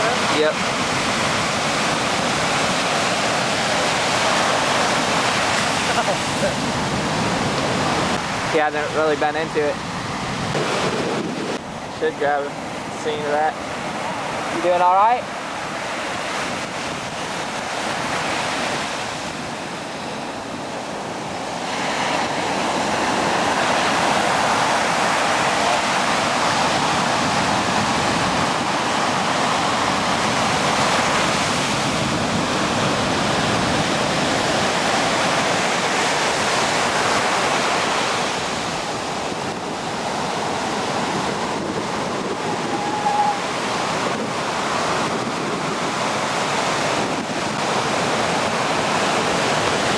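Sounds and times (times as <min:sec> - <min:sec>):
ocean surf rushing: 0:00.0 - 0:49.9.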